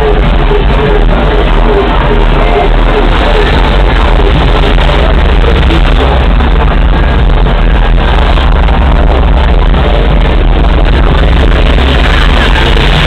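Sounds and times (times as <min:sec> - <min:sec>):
loud distorted music: 0:00.0 - 0:13.0.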